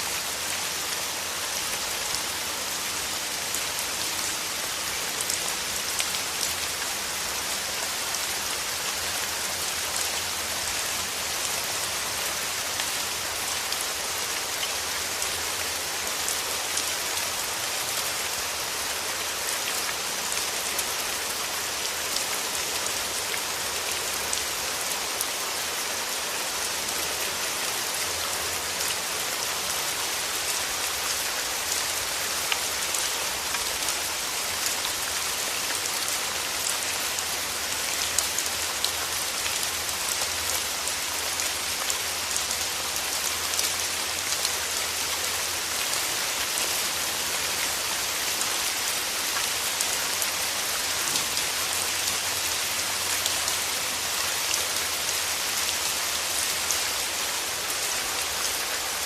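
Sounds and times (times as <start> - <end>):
rain patter on leaves: 0.0 - 59.0.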